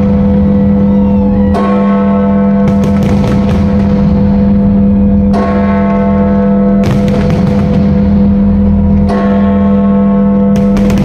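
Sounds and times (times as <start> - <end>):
bells ringing: 0.0 - 11.0.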